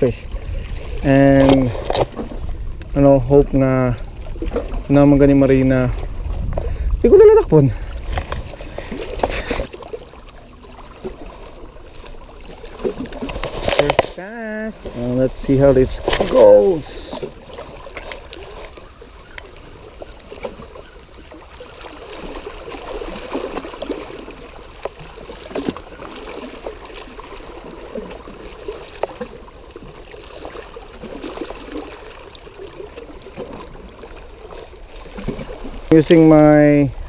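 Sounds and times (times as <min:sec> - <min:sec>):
small waves lapping on rocks: 0:00.0 - 0:37.0.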